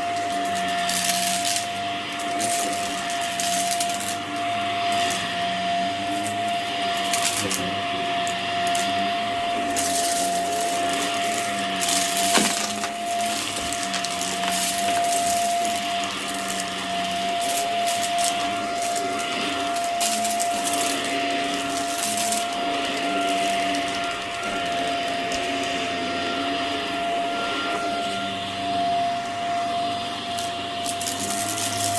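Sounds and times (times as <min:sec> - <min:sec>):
grit crackling up vacuum: 0:00.0 - 0:31.9
vacuum cleaner motor whine: 0:00.0 - 0:31.9.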